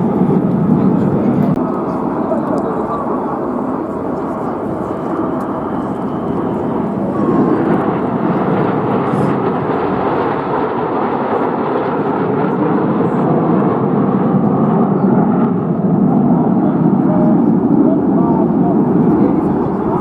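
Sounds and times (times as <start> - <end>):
aircraft engine rumbling: 0.0 - 20.0.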